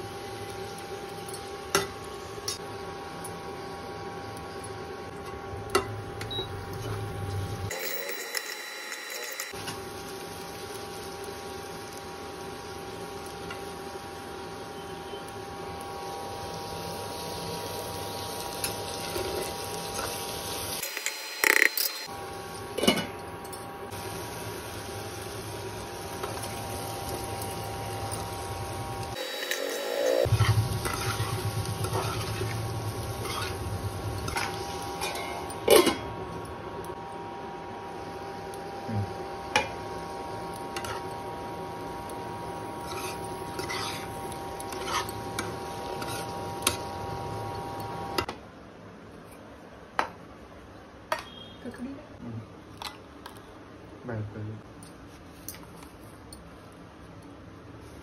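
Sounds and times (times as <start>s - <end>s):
vegetables sizzling in pan: 0.0s - 21.4s, 22.0s - 48.3s
cooktop hum and whine: 0.0s - 58.0s.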